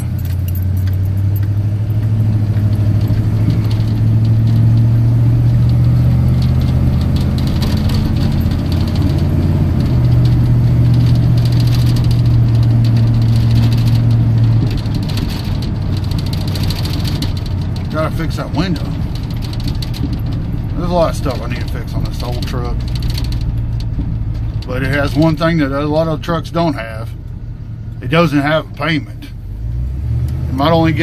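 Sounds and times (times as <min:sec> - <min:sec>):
pickup engine running: 0:00.0 - 0:31.0.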